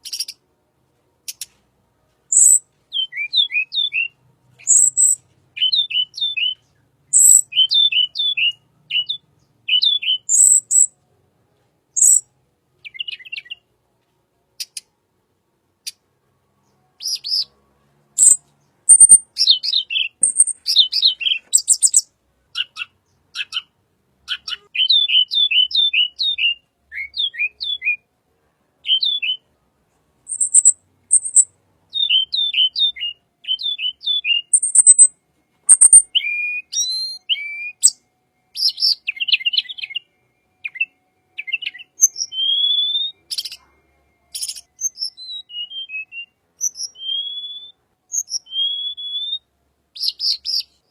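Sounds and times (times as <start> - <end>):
songbird singing high chirps: 0.0 - 0.4, 2.3 - 11.0, 11.9 - 13.7, 16.6 - 17.6, 18.2 - 23.7, 24.3 - 28.0, 28.8 - 29.5, 30.3 - 50.9.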